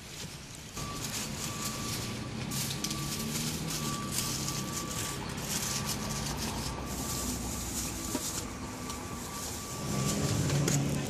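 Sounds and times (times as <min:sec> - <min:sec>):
foil and plastic bag crinkling: 0:00.0 - 0:11.0
traffic hum: 0:00.0 - 0:11.0.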